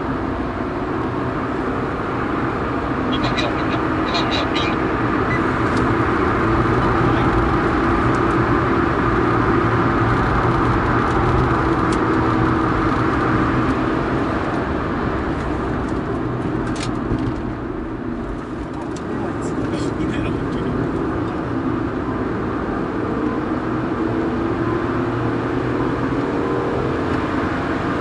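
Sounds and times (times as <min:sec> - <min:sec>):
car engine droning: 0:00.0 - 0:28.0
road and wind noise: 0:00.0 - 0:28.0.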